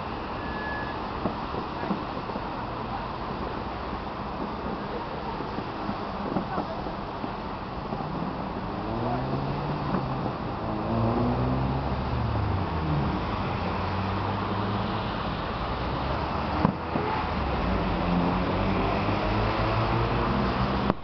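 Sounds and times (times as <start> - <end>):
hum of running engines: 1.6 - 21.0.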